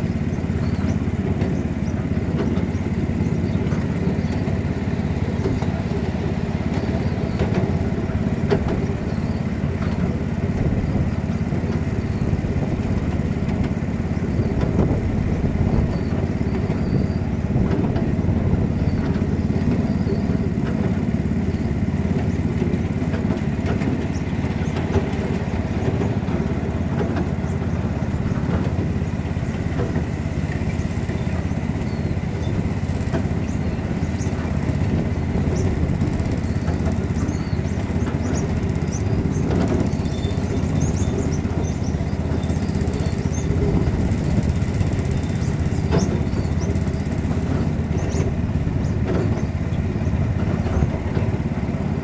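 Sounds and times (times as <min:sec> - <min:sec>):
miniature train rumbling: 0:00.0 - 0:52.0.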